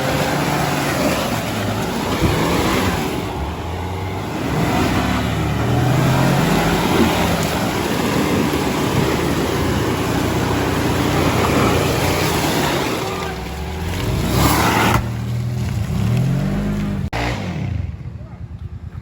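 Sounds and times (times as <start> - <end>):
engine running and revving: 0.0 - 19.0.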